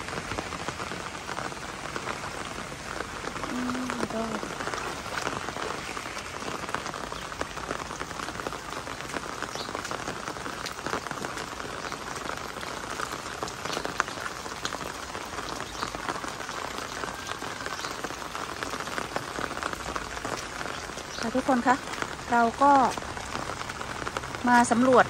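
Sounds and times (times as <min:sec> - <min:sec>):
heavy rain falling: 0:00.0 - 0:25.0
raindrop ticks: 0:00.0 - 0:25.0.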